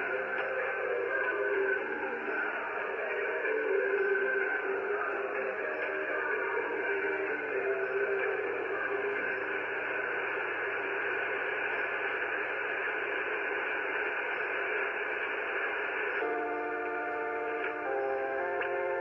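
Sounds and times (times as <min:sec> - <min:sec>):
faint radio music: 0:00.0 - 0:19.0
radio static hiss: 0:00.0 - 0:19.0.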